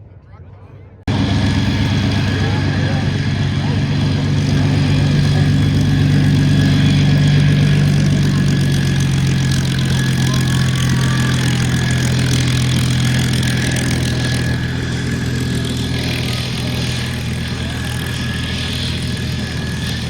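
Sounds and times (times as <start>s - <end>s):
engine droning: 1.1s - 20.0s.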